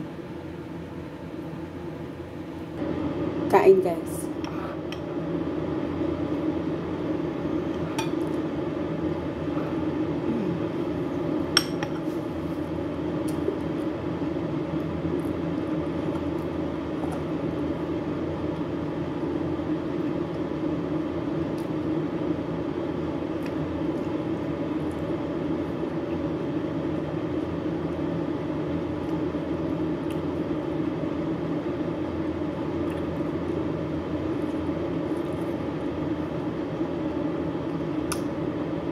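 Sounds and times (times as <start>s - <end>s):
appliance mechanical hum: 0.0s - 38.9s.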